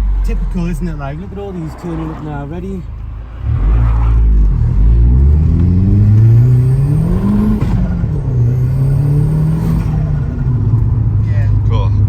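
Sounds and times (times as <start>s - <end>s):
turbocharged car engine accelerating: 0.0s - 12.0s.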